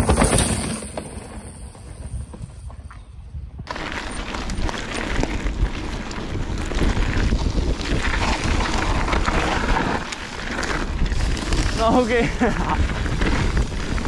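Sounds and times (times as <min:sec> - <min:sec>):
bike rattling clicks and knocks: 0:00.0 - 0:14.0
bike tyres rolling over ground: 0:00.0 - 0:14.0
wind buffeting microphone: 0:01.8 - 0:14.0.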